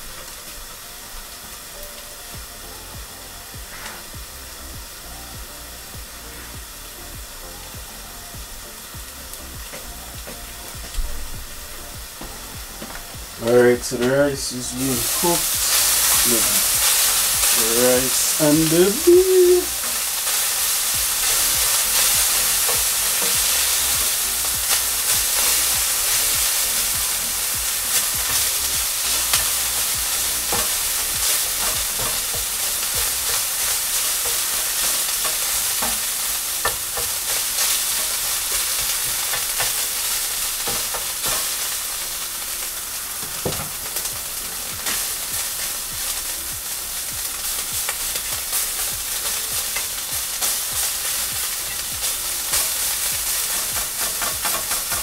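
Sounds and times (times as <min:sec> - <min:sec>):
beef sizzling in a hot pan: 0:00.0 - 0:55.0.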